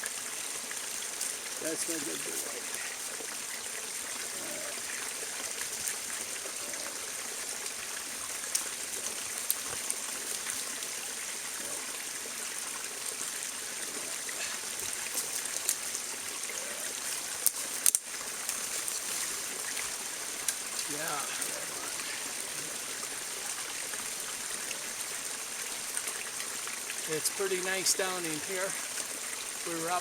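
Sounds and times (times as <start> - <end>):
stream trickling: 0.0 - 30.0.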